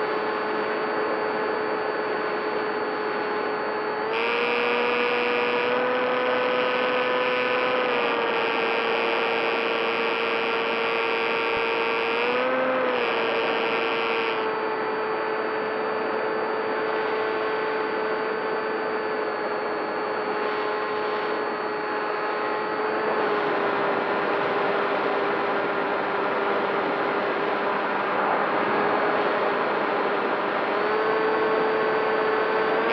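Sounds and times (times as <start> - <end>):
model plane motor whine: 0.0 - 32.9.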